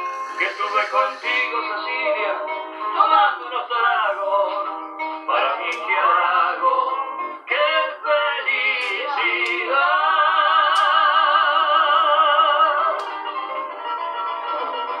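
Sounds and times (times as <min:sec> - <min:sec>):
strummed acoustic guitar: 0:00.0 - 0:15.0
man singing: 0:00.2 - 0:04.7, 0:05.3 - 0:13.2.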